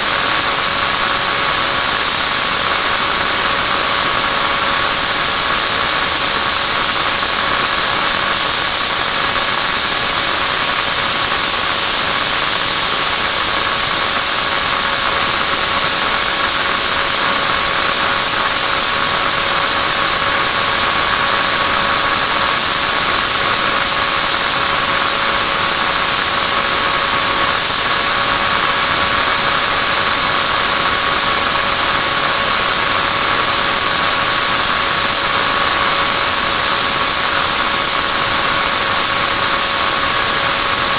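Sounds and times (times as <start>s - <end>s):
angle grinder grinding metal: 0.0s - 40.9s.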